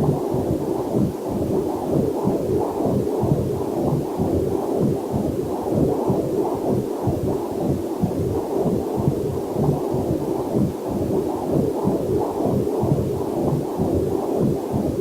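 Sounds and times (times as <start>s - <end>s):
heartbeat whooshing pulses: 0.0s - 15.0s.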